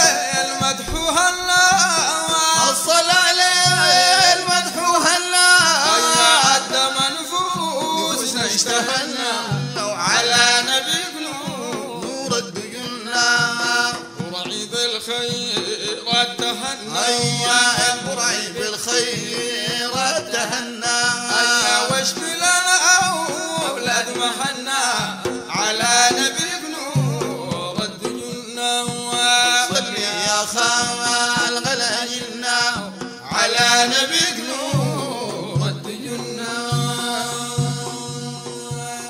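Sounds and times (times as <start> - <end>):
person singing praise poem: 0.0 - 39.0.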